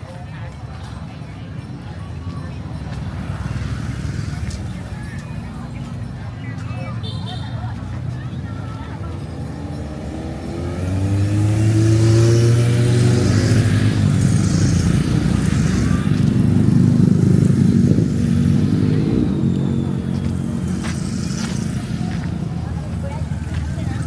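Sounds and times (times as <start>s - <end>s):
vehicle engine passing by: 2.4s - 24.0s.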